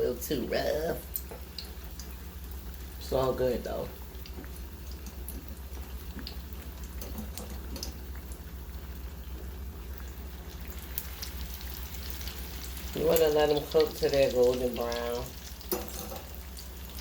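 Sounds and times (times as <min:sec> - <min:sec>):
food deep-frying in hot oil: 0:00.0 - 0:17.0
steady low hum: 0:00.0 - 0:17.0.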